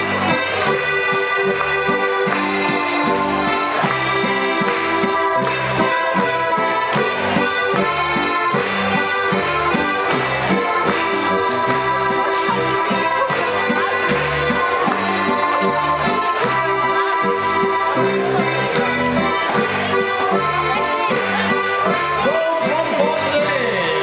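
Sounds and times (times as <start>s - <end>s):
button accordions playing folk music: 0.0s - 24.0s.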